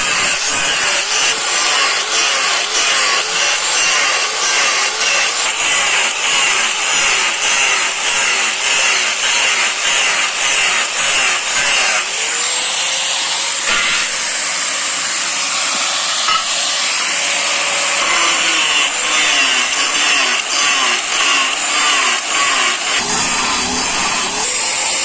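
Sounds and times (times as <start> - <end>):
angle grinder grinding steel: 0.0 - 25.0.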